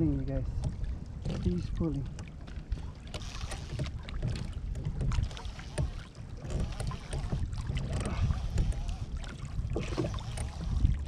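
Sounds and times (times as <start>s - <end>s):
water lapping against hull: 0.0s - 11.0s
wind rumble on microphone: 0.0s - 11.0s.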